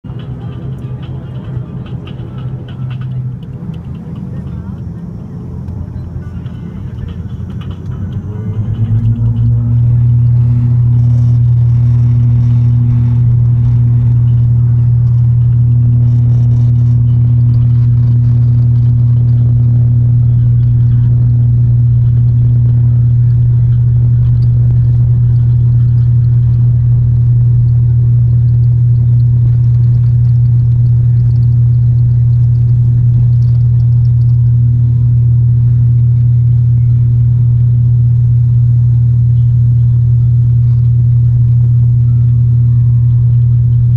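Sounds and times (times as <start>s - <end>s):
deep propeller drone: 0.0s - 43.9s
faint higher hum: 0.0s - 43.9s.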